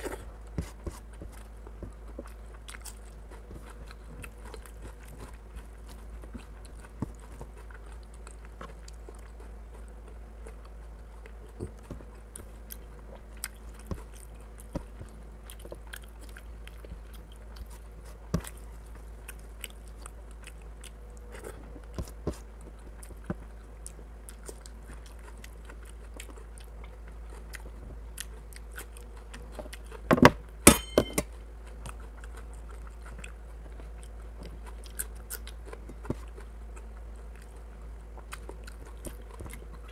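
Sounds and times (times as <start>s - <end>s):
mouth chewing: 0.0s - 30.1s, 31.4s - 39.9s.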